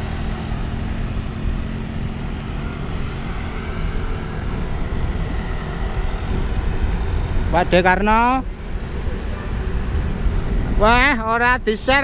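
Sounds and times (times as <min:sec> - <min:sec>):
road rumble: 0:00.0 - 0:12.0
wind rushing: 0:00.0 - 0:12.0.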